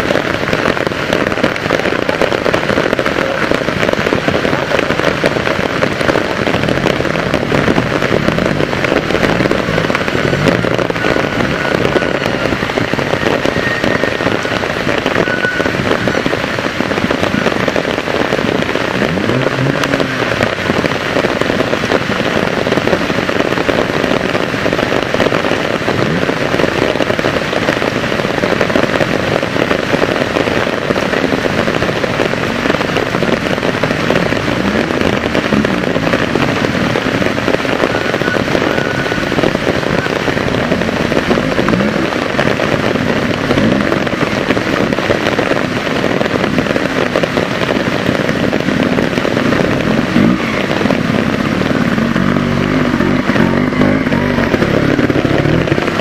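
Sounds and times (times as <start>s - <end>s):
heavy rain: 0.0s - 56.0s
motorcycle engine revving: 0.9s - 15.0s, 15.8s - 25.0s, 29.0s - 56.0s.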